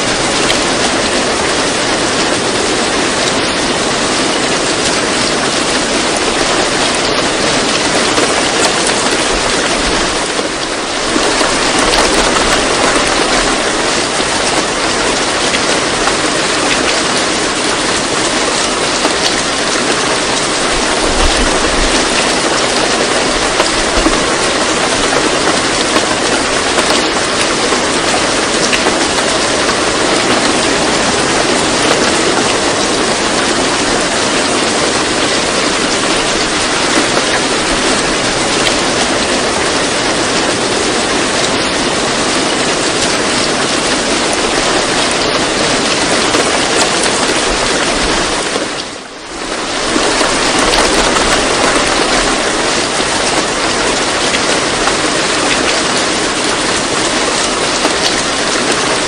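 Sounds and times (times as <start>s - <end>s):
faint rain patters: 0.0s - 59.0s
steady rain hiss: 0.0s - 59.0s.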